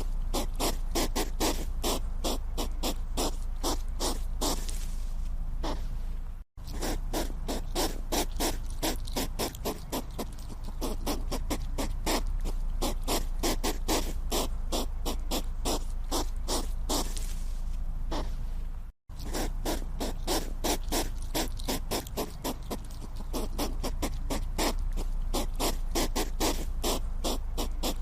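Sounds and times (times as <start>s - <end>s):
hedgehog breathy puffs: 0.0s - 6.1s, 6.7s - 18.6s, 19.2s - 28.0s.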